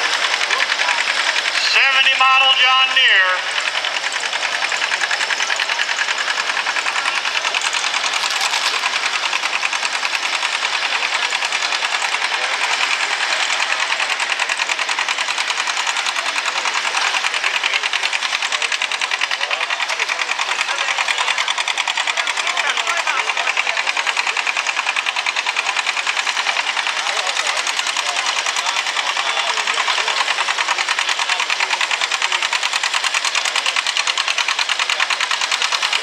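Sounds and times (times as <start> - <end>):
tractor engine running hard: 0.0 - 36.0.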